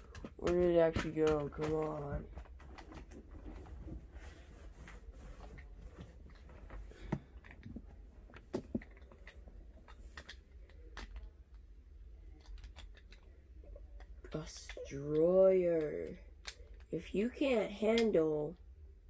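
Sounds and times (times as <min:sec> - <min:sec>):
faint clicks and knocks of rummaging: 0:00.0 - 0:16.9.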